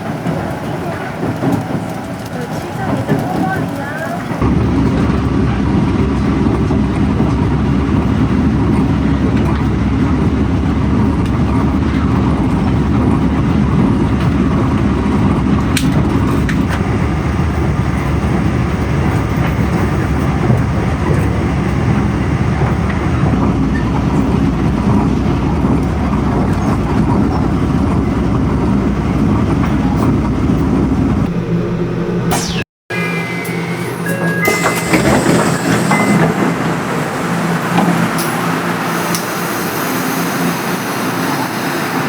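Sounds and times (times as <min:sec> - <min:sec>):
train wheels rumbling on rails: 0:00.0 - 0:31.3, 0:33.4 - 0:42.0.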